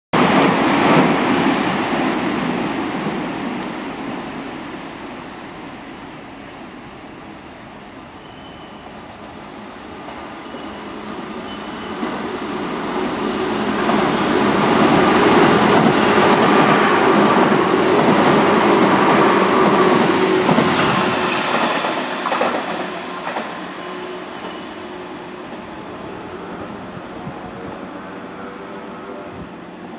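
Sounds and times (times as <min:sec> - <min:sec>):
electric train passing: 0:00.2 - 0:29.9.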